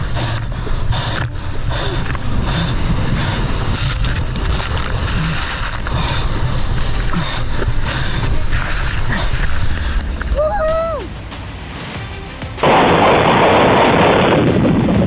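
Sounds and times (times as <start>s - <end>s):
wind rushing: 0.0s - 14.5s
heavy low rumble: 0.0s - 14.6s.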